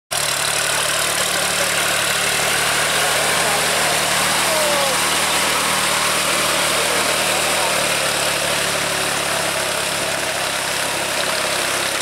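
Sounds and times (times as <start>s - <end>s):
tractor diesel engine drone: 0.1s - 12.0s.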